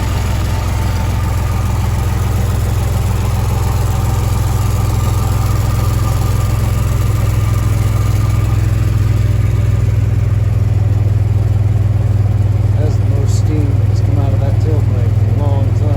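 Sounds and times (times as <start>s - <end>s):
pickup truck exhaust idling: 0.0s - 15.9s.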